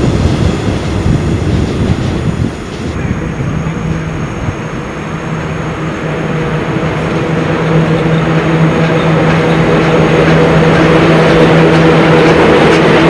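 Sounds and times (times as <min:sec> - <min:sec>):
electric locomotive hum: 0:00.0 - 0:13.0
wheels rumbling on rail: 0:00.0 - 0:13.0.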